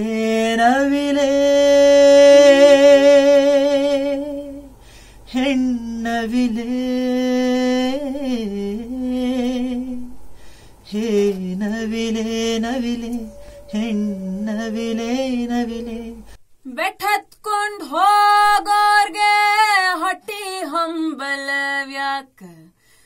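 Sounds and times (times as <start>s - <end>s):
man singing unaccompanied: 0.0s - 22.7s.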